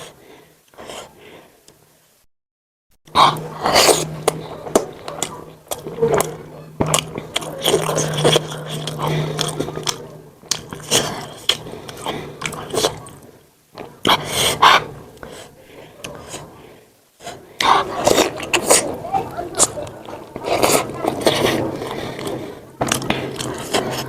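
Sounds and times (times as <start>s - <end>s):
soft breaths: 0.0s - 2.1s, 3.1s - 24.0s
close-miked chewing: 3.1s - 24.0s.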